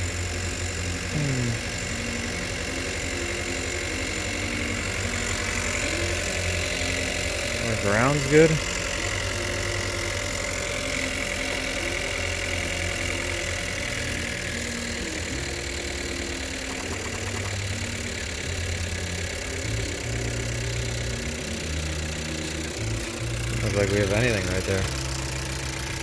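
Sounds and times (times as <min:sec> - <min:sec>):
car engine idling with a misfire: 0:00.0 - 0:26.0.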